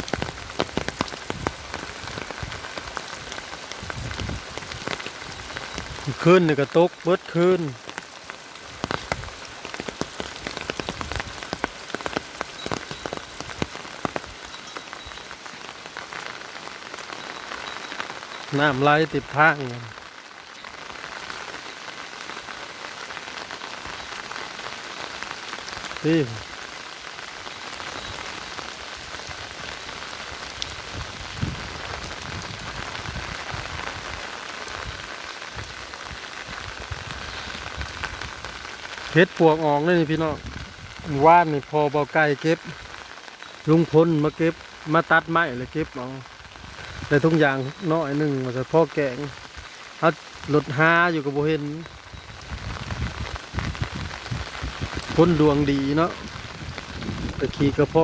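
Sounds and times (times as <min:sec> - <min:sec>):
raindrops striking close by: 0:00.0 - 0:58.0
steady rain: 0:00.0 - 0:58.0.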